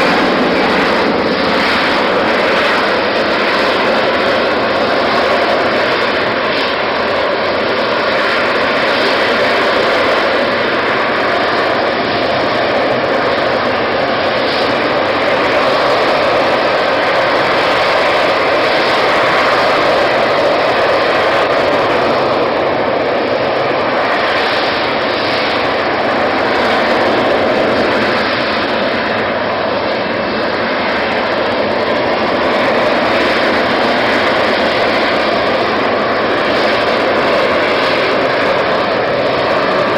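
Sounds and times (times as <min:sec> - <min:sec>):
aircraft engine noise: 0:00.0 - 0:39.9.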